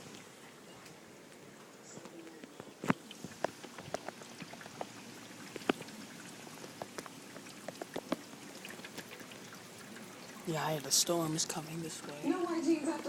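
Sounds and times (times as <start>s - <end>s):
faint hiss of rain: 0.0s - 13.0s
raindrops tapping hard surface: 0.8s - 13.0s.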